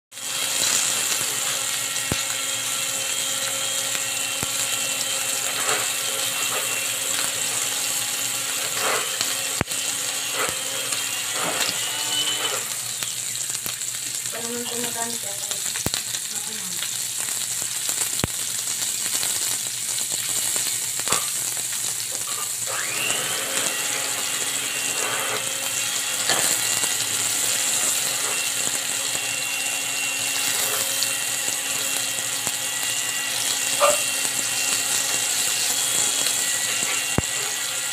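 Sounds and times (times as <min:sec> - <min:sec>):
beef sizzling on a griddle: 0:00.1 - 0:37.9.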